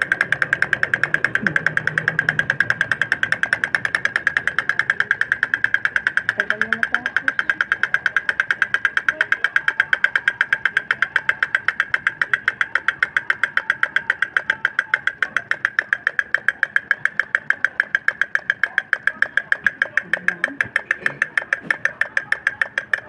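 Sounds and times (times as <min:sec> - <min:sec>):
toy drum tapping: 0:00.0 - 0:23.0.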